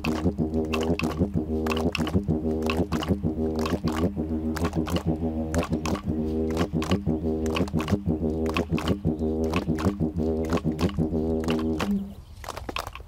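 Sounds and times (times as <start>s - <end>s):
didgeridoo drone: 0.0s - 12.2s.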